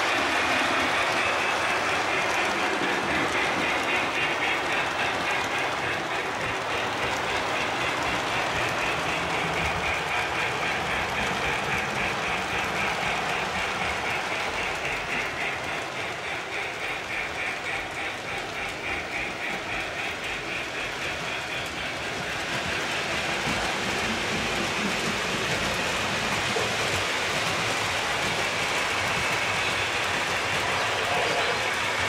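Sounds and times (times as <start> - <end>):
model train wheels rattling: 0.0 - 32.0.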